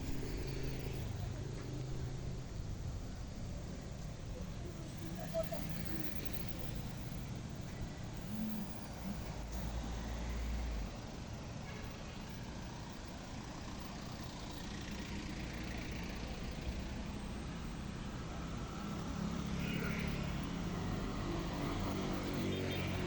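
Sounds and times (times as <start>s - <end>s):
vehicle engines running: 0.0s - 23.0s.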